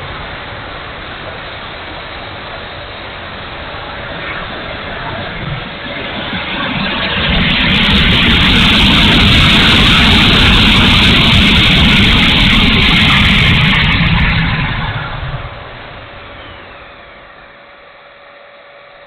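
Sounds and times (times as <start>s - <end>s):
electric ducted fan rushing: 0.0s - 19.0s.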